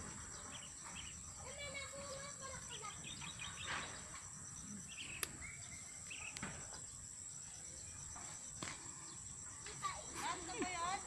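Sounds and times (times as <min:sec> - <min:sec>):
bird chirps: 0:00.0 - 0:10.1
insects droning: 0:00.0 - 0:11.0.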